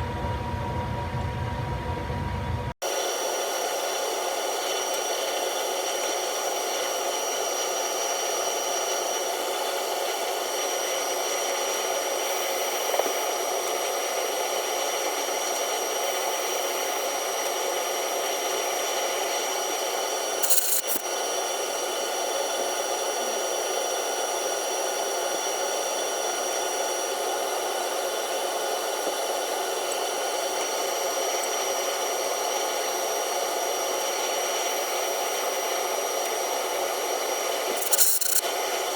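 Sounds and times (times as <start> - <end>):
lathe running with high whine: 0.0 - 38.9.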